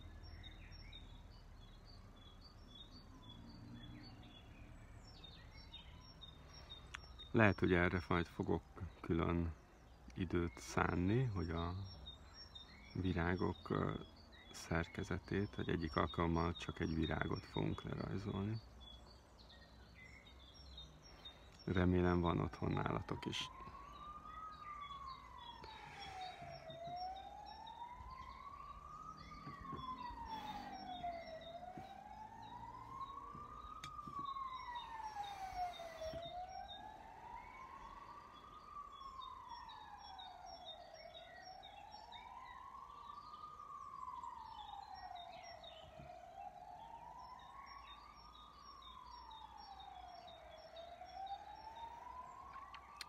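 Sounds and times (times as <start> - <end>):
faint wailing siren: 0.0 - 53.0.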